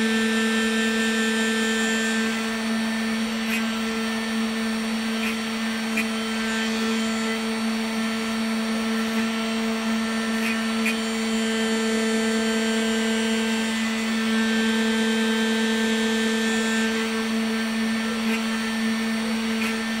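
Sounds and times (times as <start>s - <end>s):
bit milling wax: 0.0s - 20.0s
router spindle motor humming: 0.0s - 20.0s.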